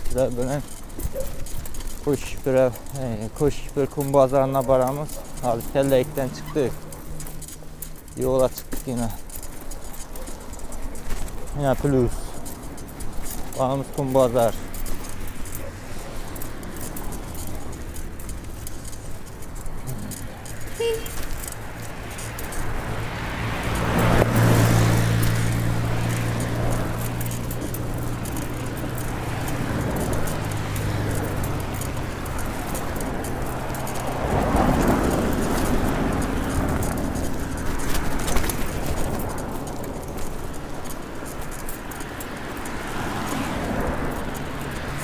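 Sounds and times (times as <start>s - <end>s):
bicycle clicks and rattles: 0.0s - 45.0s
passing vehicle engine hum: 0.0s - 45.0s
wind and road noise: 0.0s - 45.0s.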